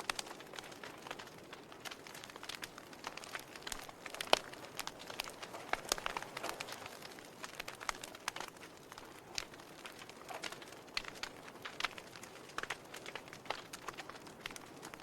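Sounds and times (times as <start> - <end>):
logs crackling and popping in fireplace: 0.0 - 15.0.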